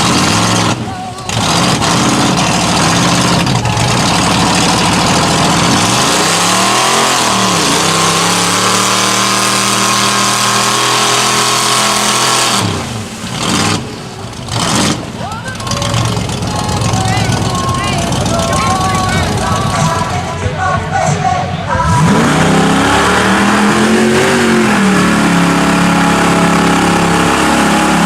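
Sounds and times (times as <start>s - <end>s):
truck engine at full throttle: 0.0s - 28.0s.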